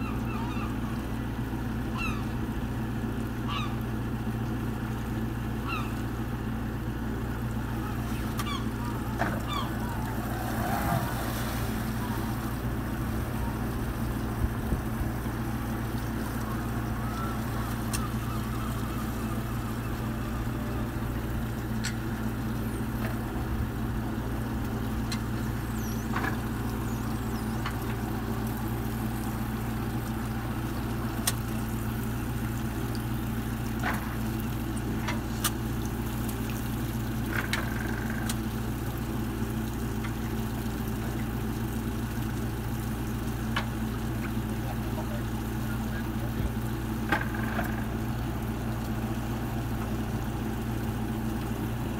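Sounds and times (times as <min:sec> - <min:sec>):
outboard engines running: 0:00.0 - 0:51.9.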